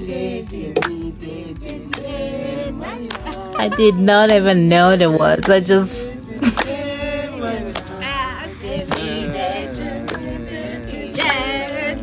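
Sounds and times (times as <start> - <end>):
voices singing unaccompanied: 0.0 - 12.0.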